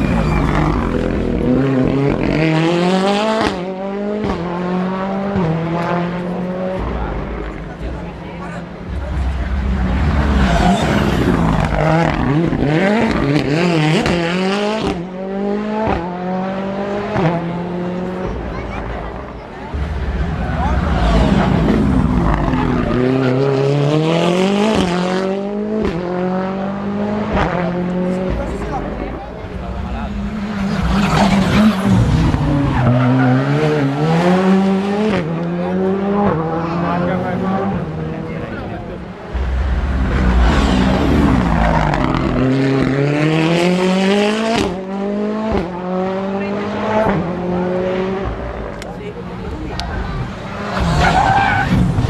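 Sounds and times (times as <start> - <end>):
car engine revving: 0.0 - 52.0
tyre and road noise: 0.0 - 52.0.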